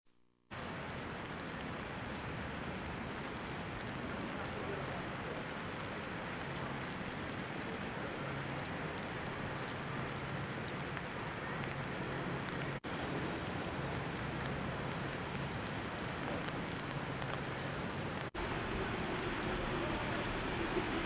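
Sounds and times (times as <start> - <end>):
steady rain falling: 0.5 - 21.0.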